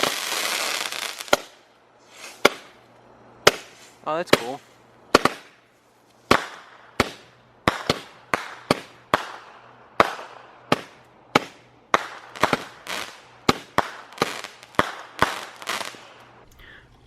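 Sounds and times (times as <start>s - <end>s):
firework bangs with crackle: 0.0s - 1.6s, 2.2s - 2.8s, 3.4s - 16.2s.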